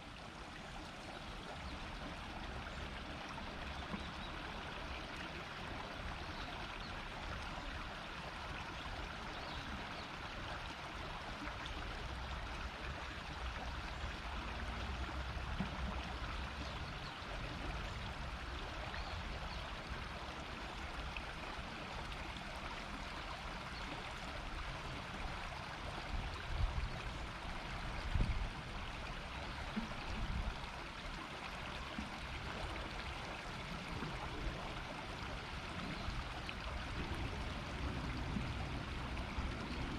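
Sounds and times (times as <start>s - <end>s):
shallow river babbling: 0.0s - 39.9s.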